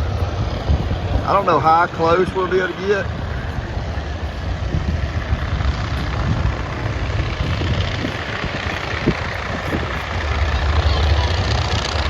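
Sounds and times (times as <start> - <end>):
broad rushing noise: 0.0 - 12.0
low engine rumble: 0.0 - 12.0.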